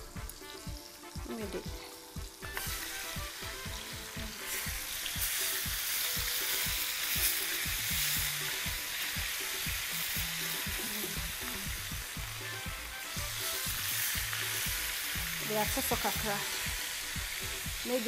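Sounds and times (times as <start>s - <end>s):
oil sizzling in a frying pan: 0.0s - 18.0s.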